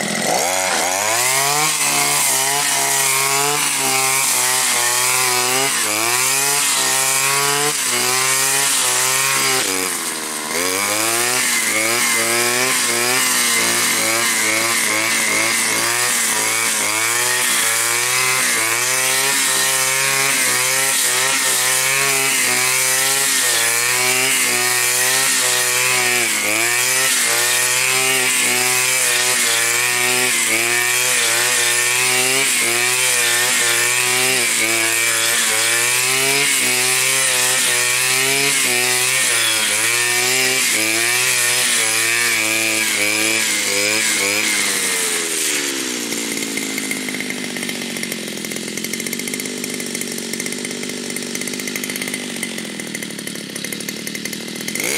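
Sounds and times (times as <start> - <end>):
brushcutter engine cutting grass: 0.0 - 54.9.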